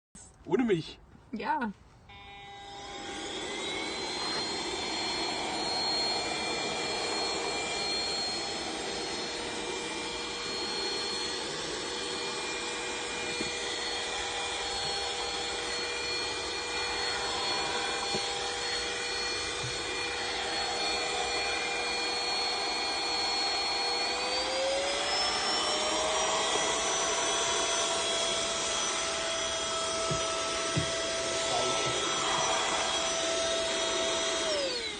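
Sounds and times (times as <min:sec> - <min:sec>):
handheld vacuum cleaner whining: 0:02.1 - 0:34.9.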